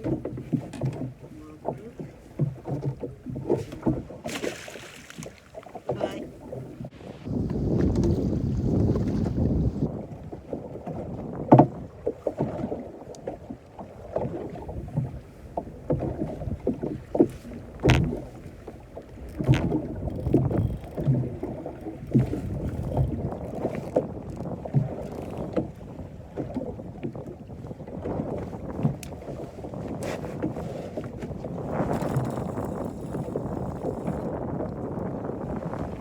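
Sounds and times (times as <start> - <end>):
boat knocks and clunks: 0.0 - 36.0
water slapping against hull: 0.0 - 36.0
wind on microphone: 5.2 - 36.0.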